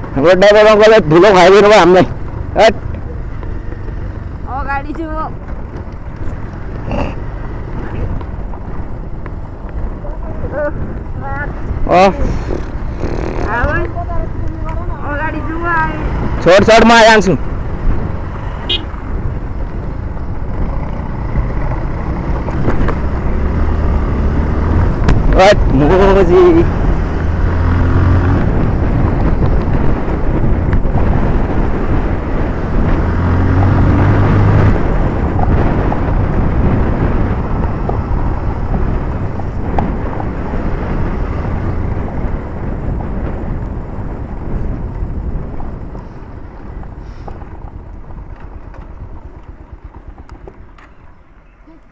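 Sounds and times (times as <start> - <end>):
motorcycle engine running: 0.0 - 51.9
wind buffeting microphone: 0.0 - 51.9.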